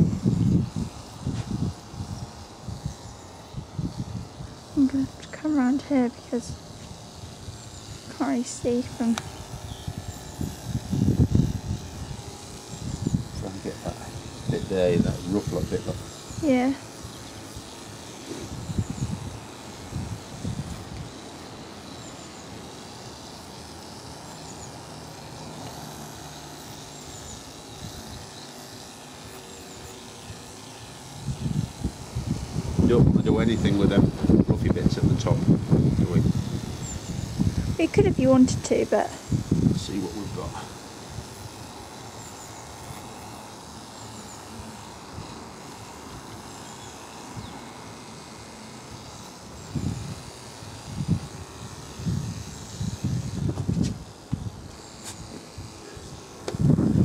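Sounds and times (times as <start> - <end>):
electric clipper humming: 0.0 - 57.0.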